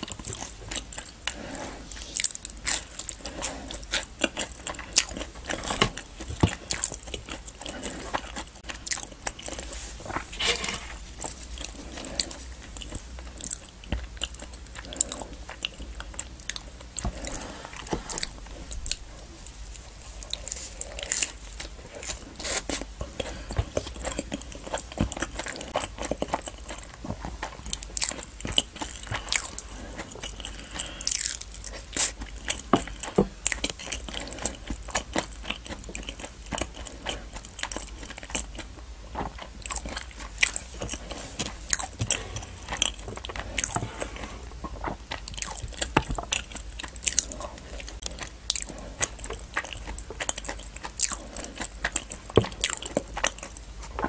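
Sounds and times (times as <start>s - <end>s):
close chewing with mouth clicks: 0.0s - 54.0s.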